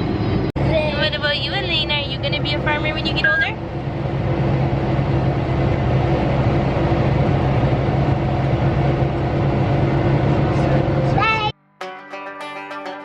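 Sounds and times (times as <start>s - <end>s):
tractor engine droning: 0.0s - 11.5s.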